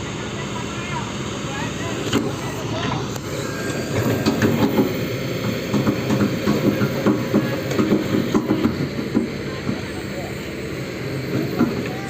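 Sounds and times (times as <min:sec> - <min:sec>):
heavy machinery engine clattering: 0:00.0 - 0:12.0.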